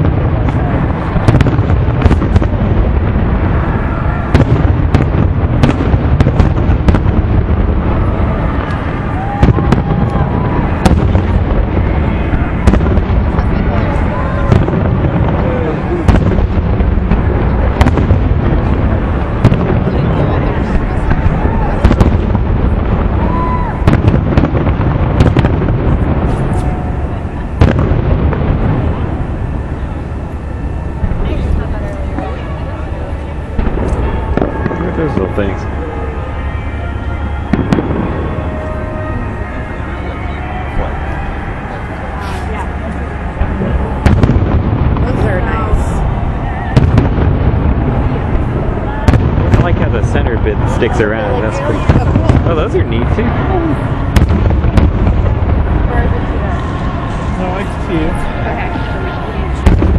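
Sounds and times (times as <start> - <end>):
rumble of fireworks shells bursting: 0.0 - 59.9
sharp fireworks bangs and cracks: 0.0 - 59.9.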